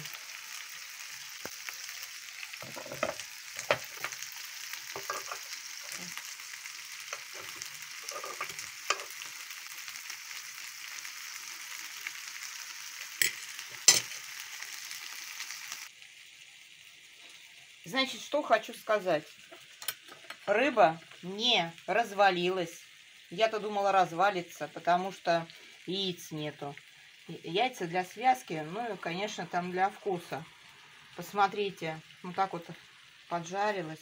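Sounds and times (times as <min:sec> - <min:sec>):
fish sizzling in oil: 0:00.0 - 0:34.0.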